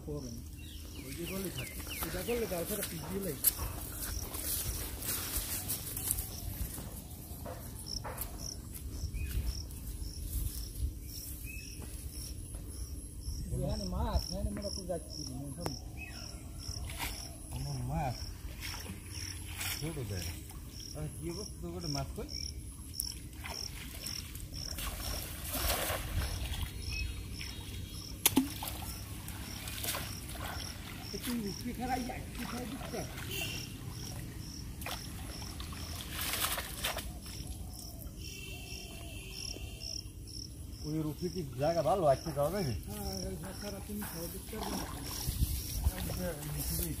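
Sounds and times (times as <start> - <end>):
insect chirping: 0.0 - 47.0
outdoor background noise: 0.0 - 47.0.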